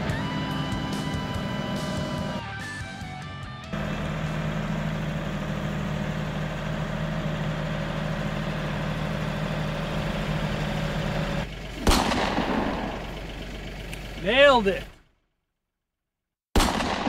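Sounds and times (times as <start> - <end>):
tractor diesel engine running: 0.0 - 15.4.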